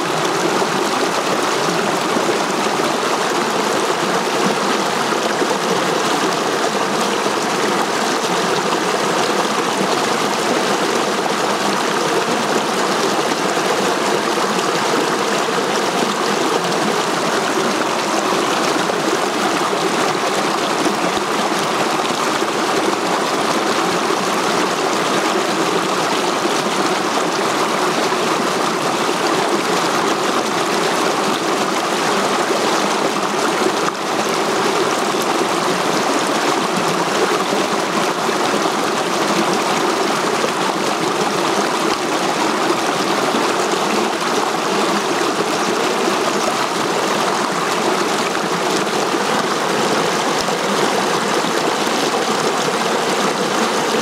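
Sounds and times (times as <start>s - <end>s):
stream splashing over rocks: 0.0s - 54.0s.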